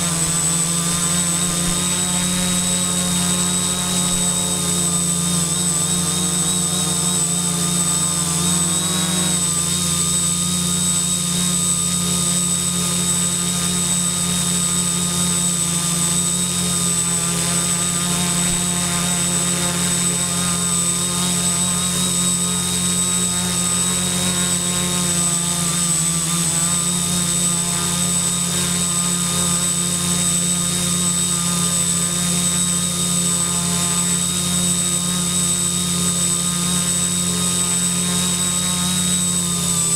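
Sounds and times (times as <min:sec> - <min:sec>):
drone motors buzzing hum: 0:00.0 - 0:39.9
high propeller whine: 0:00.0 - 0:39.9.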